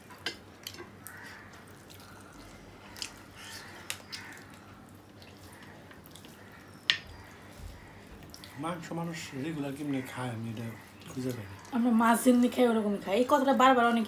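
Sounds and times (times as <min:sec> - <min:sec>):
people chewing: 0:00.4 - 0:12.6.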